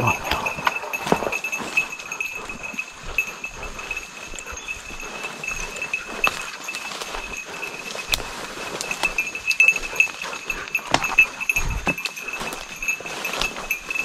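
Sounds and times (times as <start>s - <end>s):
footsteps in undergrowth: 0.0s - 14.0s.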